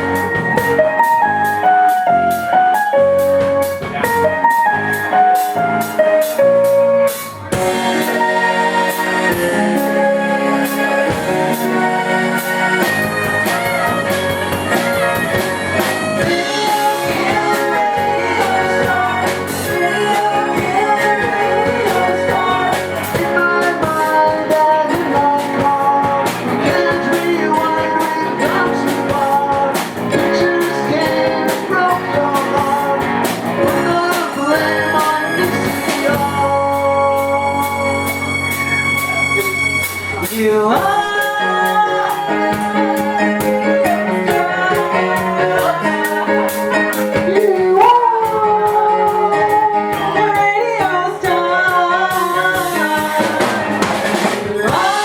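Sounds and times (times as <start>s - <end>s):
live rock band playing: 0.0s - 55.0s.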